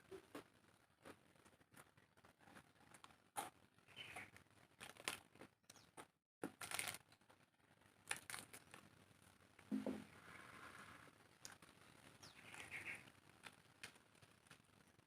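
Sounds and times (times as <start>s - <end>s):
chewing and crunching food: 0.0s - 9.7s, 10.4s - 15.0s.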